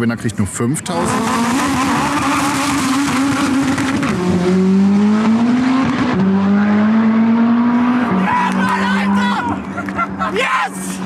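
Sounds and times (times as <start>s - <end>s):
race car engines revving: 0.8s - 11.0s.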